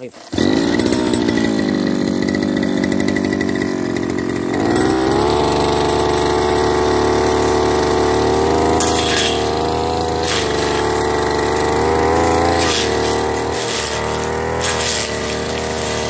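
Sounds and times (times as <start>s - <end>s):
brush cutter engine running: 0.0s - 16.0s
cutter head cutting grass: 0.0s - 16.0s.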